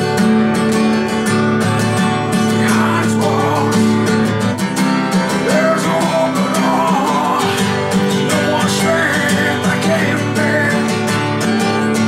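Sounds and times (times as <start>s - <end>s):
acoustic guitar strumming: 0.0s - 12.0s
man singing: 2.3s - 12.0s.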